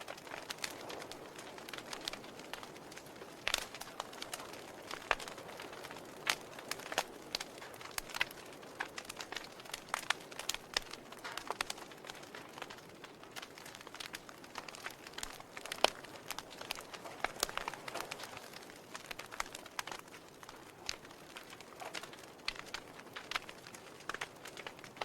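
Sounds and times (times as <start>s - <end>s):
logs crackling in fireplace: 0.0s - 25.0s.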